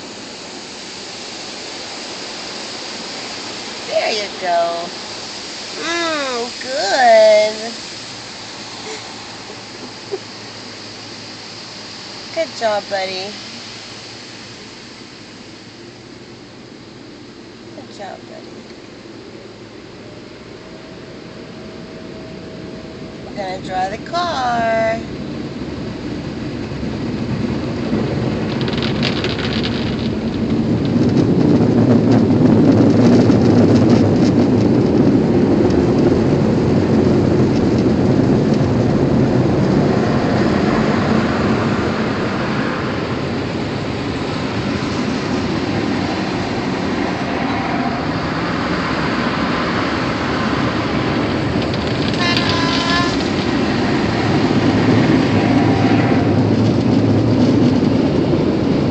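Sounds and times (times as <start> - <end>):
car wash air dryers blowing: 0.0 - 58.9.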